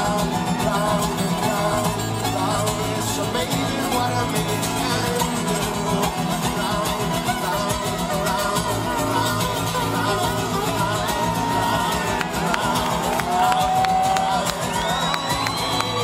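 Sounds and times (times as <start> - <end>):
acoustic guitars playing: 0.0 - 16.0
man singing: 0.0 - 16.0.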